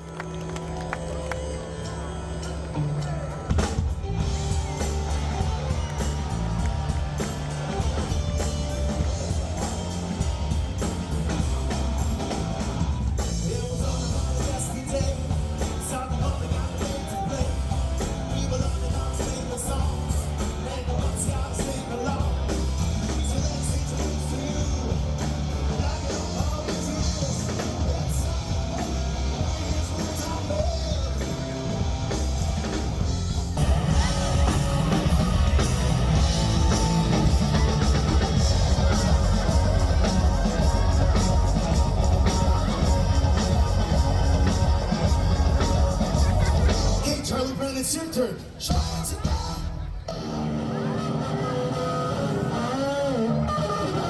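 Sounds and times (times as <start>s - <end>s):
rock band with singing: 0.0s - 54.0s.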